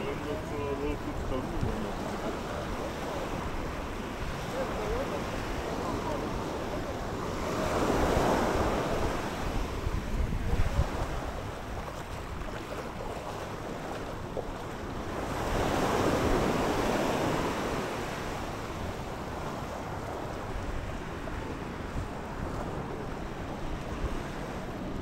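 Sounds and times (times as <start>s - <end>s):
small waves washing up shore: 0.0s - 25.0s
wind buffeting microphone: 0.0s - 25.0s.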